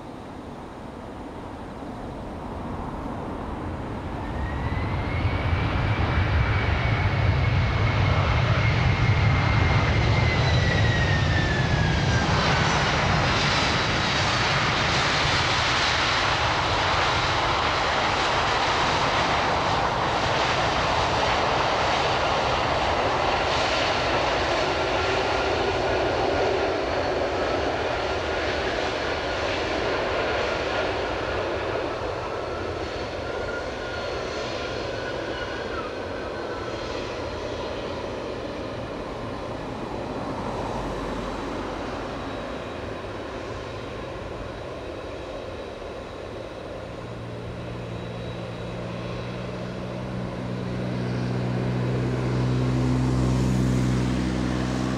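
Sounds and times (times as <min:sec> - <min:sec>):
jet engine whine: 0:00.0 - 0:54.9
jet engines roaring: 0:00.0 - 0:54.9.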